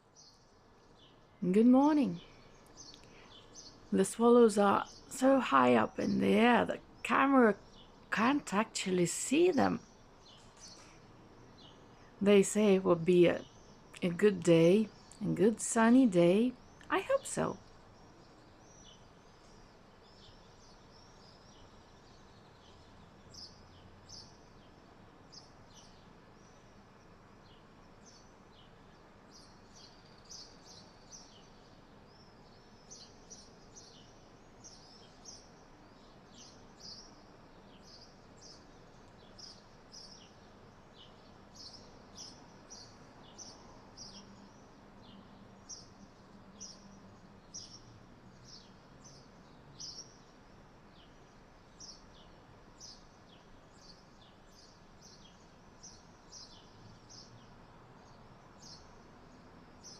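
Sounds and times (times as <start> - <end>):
low background hiss: 0.0 - 59.9.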